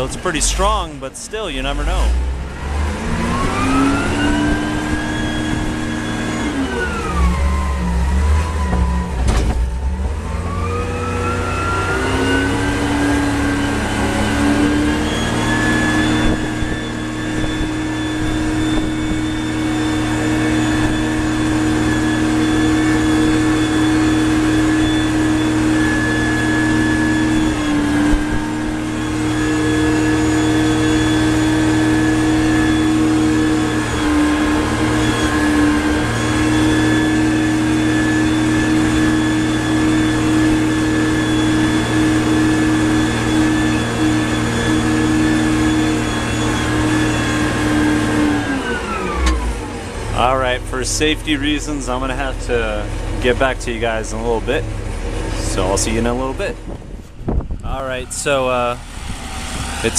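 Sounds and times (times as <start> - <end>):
loader engine running: 0.0 - 59.9.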